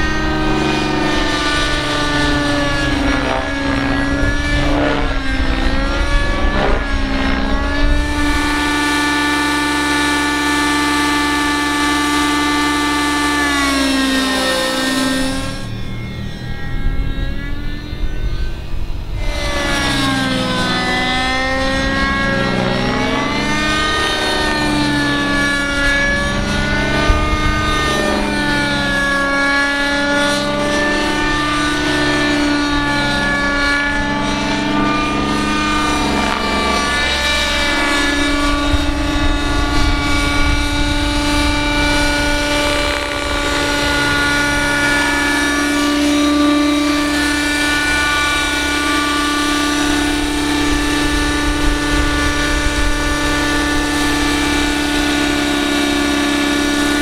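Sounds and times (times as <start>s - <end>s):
model helicopter engine and rotors: 0.0s - 57.0s.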